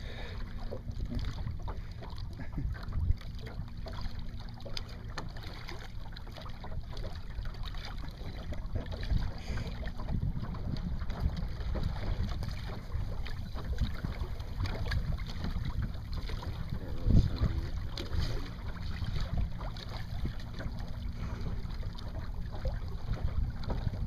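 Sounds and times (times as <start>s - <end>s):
wind buffeting microphone: 0.0s - 4.2s, 8.0s - 24.0s
water splashing along hull: 0.0s - 24.0s.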